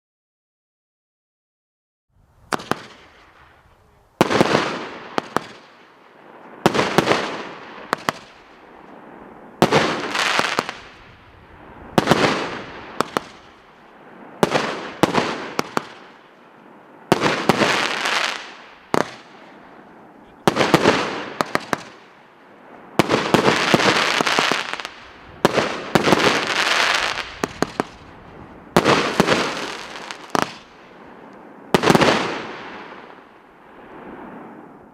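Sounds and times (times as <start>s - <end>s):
firework hissing crackling tail: 2.4s - 34.9s
firework sharp bangs: 2.5s - 16.4s, 17.1s - 34.8s.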